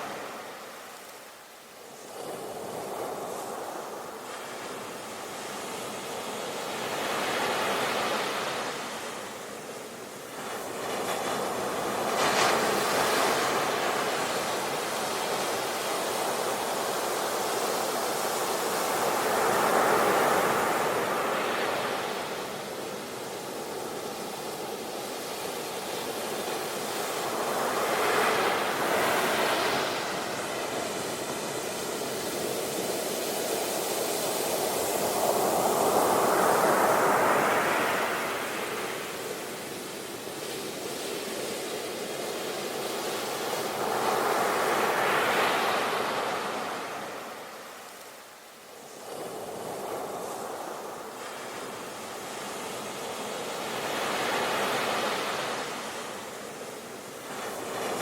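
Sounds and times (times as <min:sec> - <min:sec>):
sea waves breaking on beach: 0:01.9 - 0:58.0.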